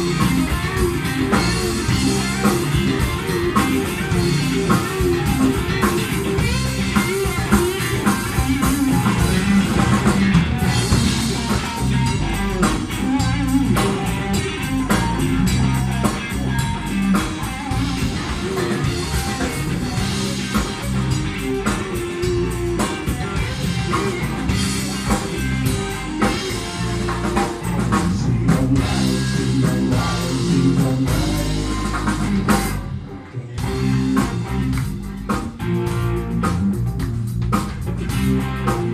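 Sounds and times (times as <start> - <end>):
drum kit: 0.0 - 38.9
electric bass: 0.0 - 38.9
electric guitar: 0.0 - 38.9.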